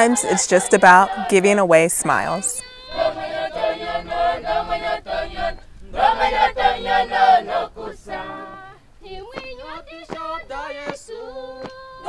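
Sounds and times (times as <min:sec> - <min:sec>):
group singing unaccompanied: 0:00.0 - 0:12.0.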